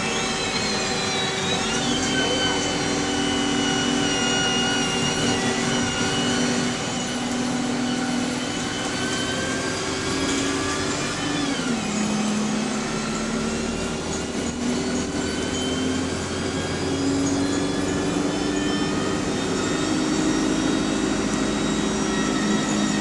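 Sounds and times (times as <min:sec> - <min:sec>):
bus engine running: 0:00.0 - 0:23.0
gearbox whining: 0:00.0 - 0:23.0.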